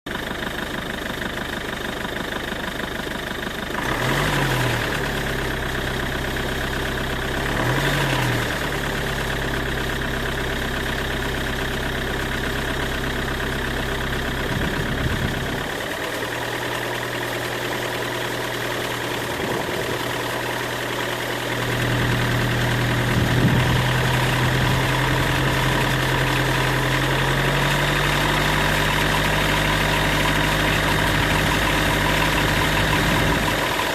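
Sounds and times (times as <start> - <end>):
diesel engine idling and revving: 0.1 - 33.9.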